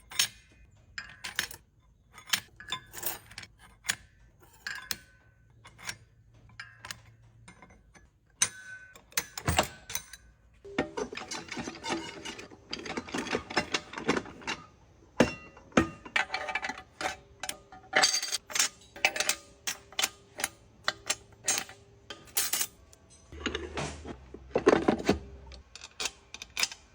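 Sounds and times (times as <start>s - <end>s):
metal parts and tools clinking: 0.0s - 26.9s.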